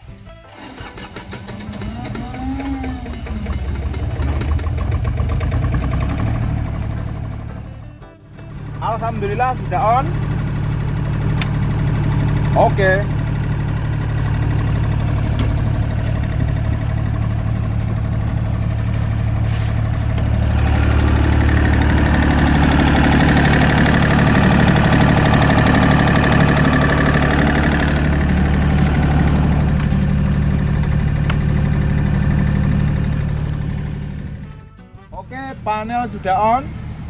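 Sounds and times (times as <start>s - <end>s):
diesel generator running: 0.0s - 37.0s.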